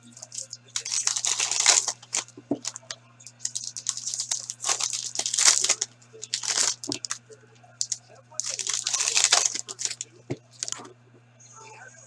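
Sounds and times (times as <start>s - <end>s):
wrappers tearing and crinkling: 0.0s - 10.9s
cards being shuffled: 0.0s - 11.0s
faint electrical hum: 0.0s - 12.0s.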